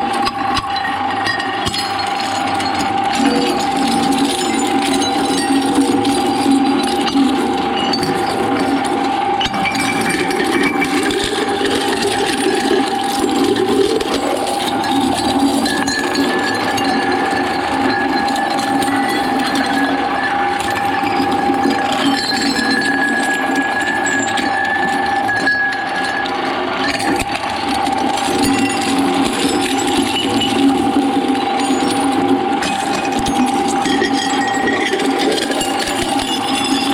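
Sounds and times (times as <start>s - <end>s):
shredder grinding and clinking: 0.0s - 36.9s.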